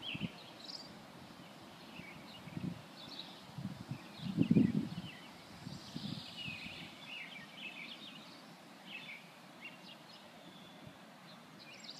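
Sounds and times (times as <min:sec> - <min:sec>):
birds chirping and trilling: 0:00.0 - 0:11.9.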